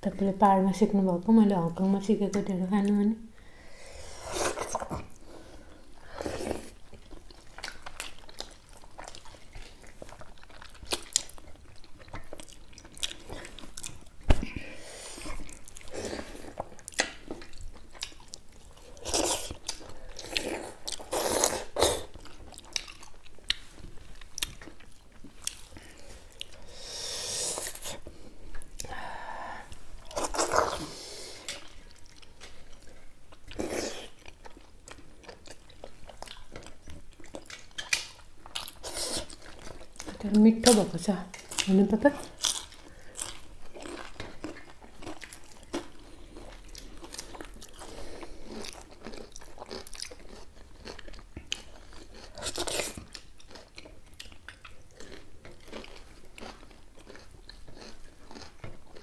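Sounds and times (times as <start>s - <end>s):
chewing and smacking: 6.6s - 26.7s, 29.7s - 59.0s.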